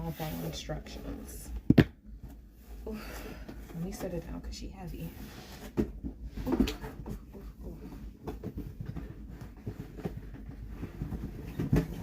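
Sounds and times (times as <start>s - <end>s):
cardboard and packaging rustling: 0.0s - 12.0s.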